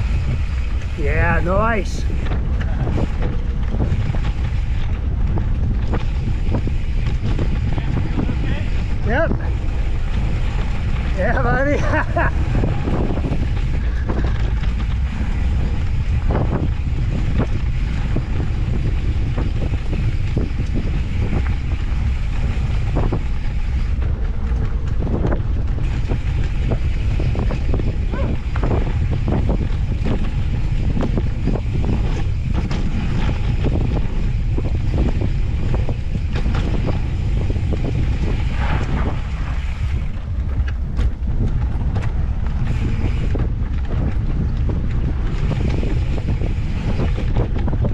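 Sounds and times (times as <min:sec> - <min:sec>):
heavy steady rumble: 0:00.0 - 0:47.9
wind buffeting microphone: 0:00.0 - 0:47.9
bike knocks and rattles: 0:02.2 - 0:47.9.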